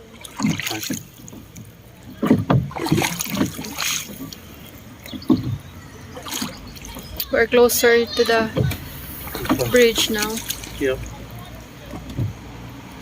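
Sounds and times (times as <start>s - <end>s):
oars splashing in water: 0.0s - 13.0s.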